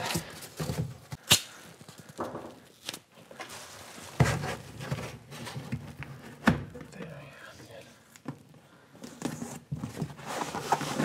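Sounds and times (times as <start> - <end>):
cardboard and hose rustling: 0.0 - 7.0, 9.0 - 11.0.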